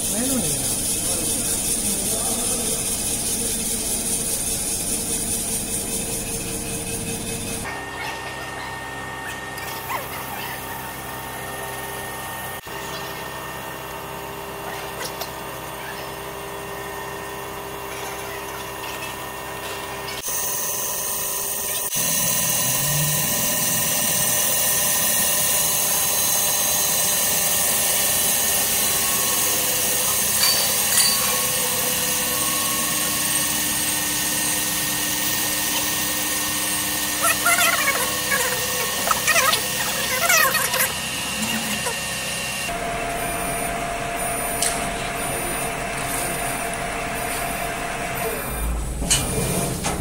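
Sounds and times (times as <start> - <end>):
lathe mechanical hum: 0.0 - 50.0.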